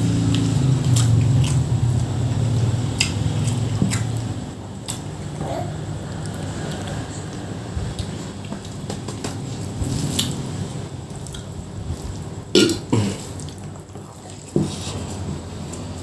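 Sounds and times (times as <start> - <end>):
chewing and mouth noises: 0.0 - 16.0.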